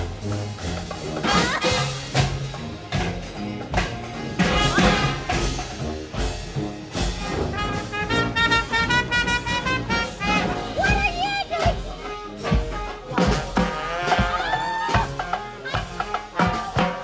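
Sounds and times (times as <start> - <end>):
music with drum beat and bass: 0.0 - 17.0.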